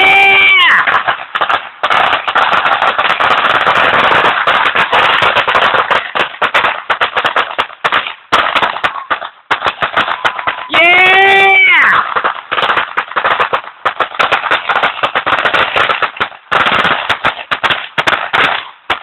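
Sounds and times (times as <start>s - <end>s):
firecrackers crackling: 0.0s - 19.0s.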